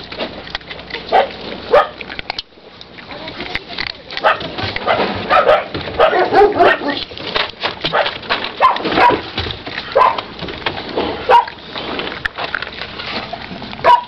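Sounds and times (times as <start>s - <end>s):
clicks and scuffs of feeding: 0.0s - 14.0s.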